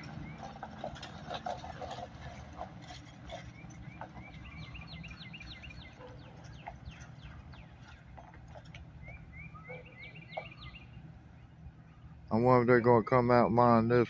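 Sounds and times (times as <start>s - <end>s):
songbird chirping: 0.0s - 13.6s.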